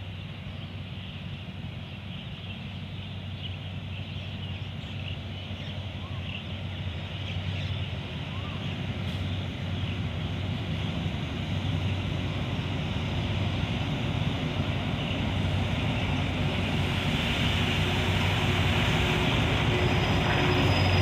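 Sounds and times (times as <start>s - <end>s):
locomotive engine hum: 0.0s - 21.0s.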